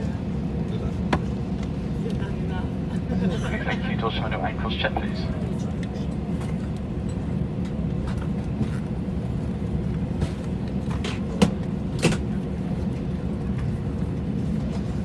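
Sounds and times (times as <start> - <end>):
airplane cabin rumble and hum: 0.0 - 15.0.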